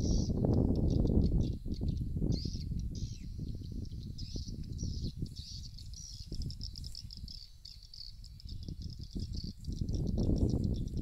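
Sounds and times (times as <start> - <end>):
bird calls from speakers: 0.0 - 11.0.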